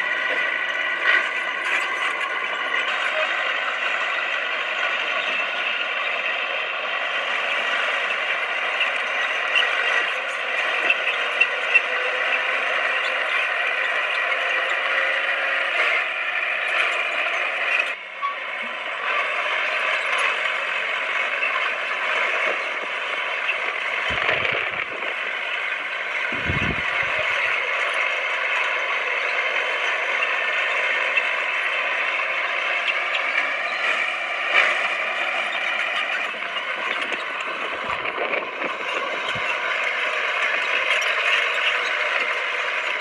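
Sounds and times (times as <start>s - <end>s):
bulldozer tracks clattering: 0.0s - 43.0s.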